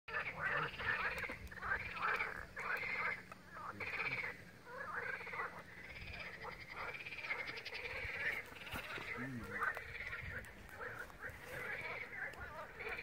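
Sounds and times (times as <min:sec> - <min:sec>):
animal calls in pulsed bursts: 0:00.1 - 0:13.0.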